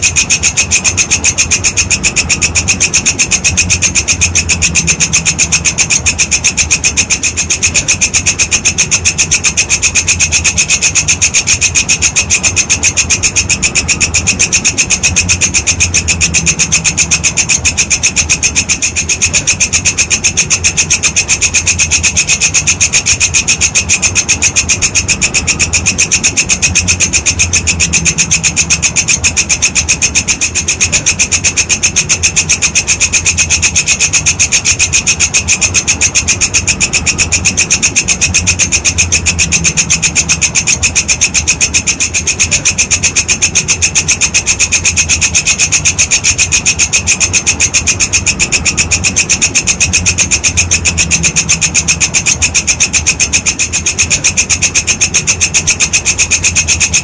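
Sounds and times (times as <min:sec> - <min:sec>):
insect trilling: 0:00.0 - 0:57.0.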